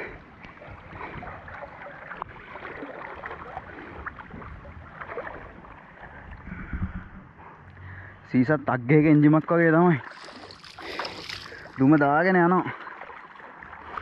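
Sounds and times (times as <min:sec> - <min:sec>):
river water sloshing and splashing: 0:00.0 - 0:14.0.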